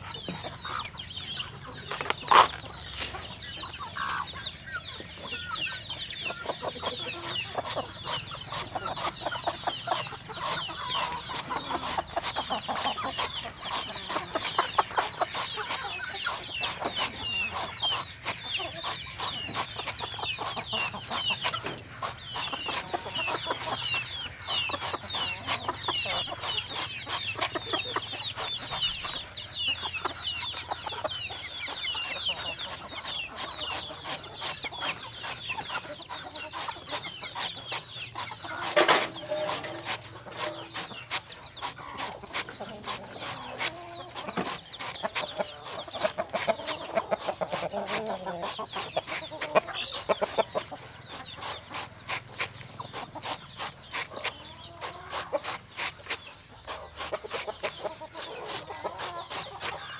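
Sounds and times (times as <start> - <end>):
chickens clucking: 0.0 - 59.9
high peeping calls: 0.0 - 59.9.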